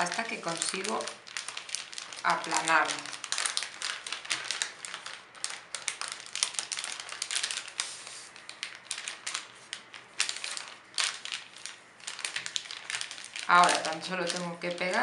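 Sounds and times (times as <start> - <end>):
metallic paper crinkling: 0.0 - 15.0.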